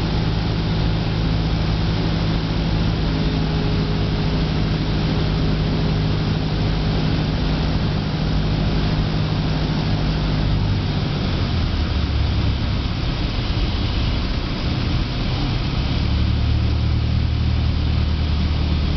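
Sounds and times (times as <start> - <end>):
propeller engine droning: 0.0 - 18.9
rushing airflow: 0.0 - 18.9.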